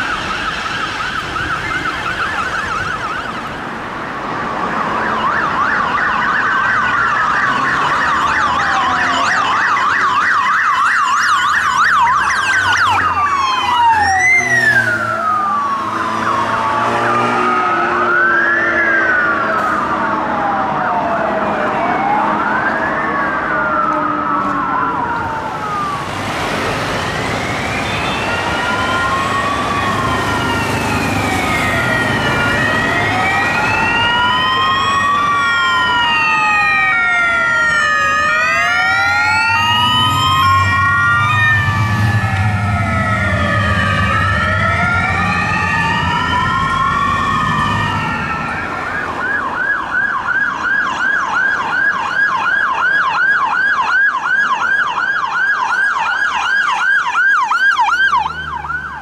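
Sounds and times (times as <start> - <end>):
siren rising and falling wail: 0.0 - 59.0
siren fast yelp: 4.6 - 26.1, 26.7 - 59.0.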